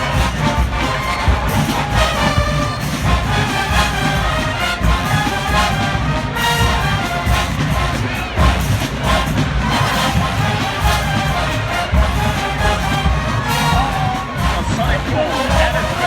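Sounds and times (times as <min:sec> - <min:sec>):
marching band playing: 0:00.0 - 0:16.0
trombones and trumpets: 0:00.0 - 0:16.0.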